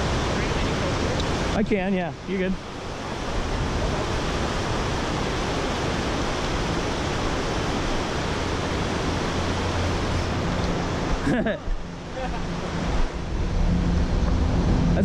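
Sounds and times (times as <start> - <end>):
river water rushing over weir: 0.0 - 15.0.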